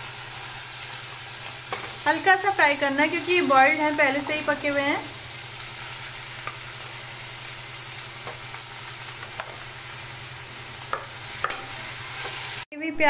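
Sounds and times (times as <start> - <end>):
pulses sizzling in a pan: 0.0 - 12.7.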